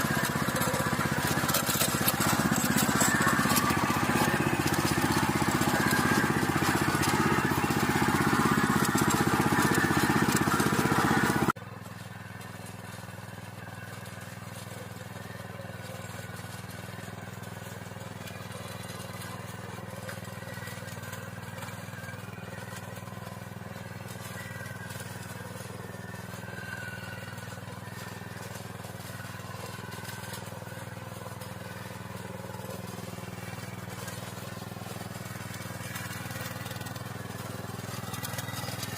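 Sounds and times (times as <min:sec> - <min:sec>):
small tiller engine running: 0:00.0 - 0:38.9.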